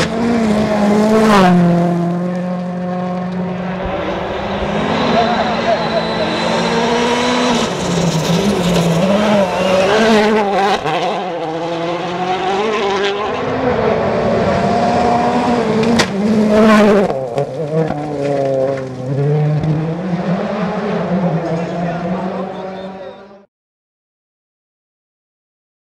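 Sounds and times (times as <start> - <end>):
rally car engines revving: 0.0 - 23.5.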